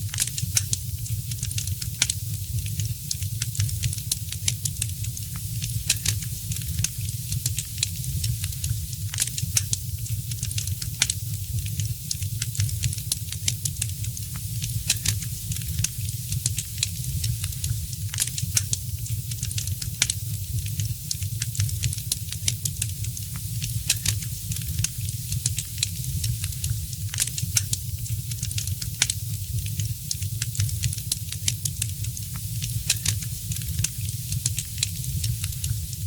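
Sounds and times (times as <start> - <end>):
flames rumbling and hissing: 0.0 - 36.0
wood fire crackling and popping: 0.0 - 36.0.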